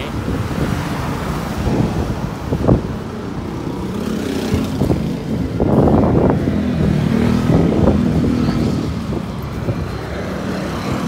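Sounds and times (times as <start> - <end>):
motorcycles passing: 0.0 - 11.0
road traffic: 0.0 - 11.0
wind buffeting microphone: 0.0 - 11.0.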